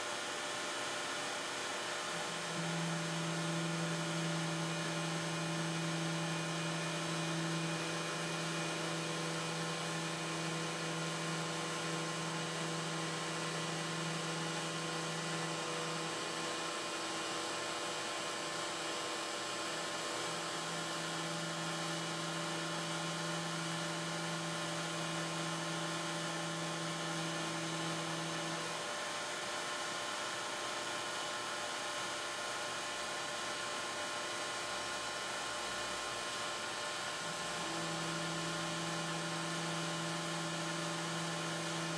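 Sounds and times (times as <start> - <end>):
router spindle hum: 0.0 - 41.9
vacuum hiss: 0.0 - 41.9.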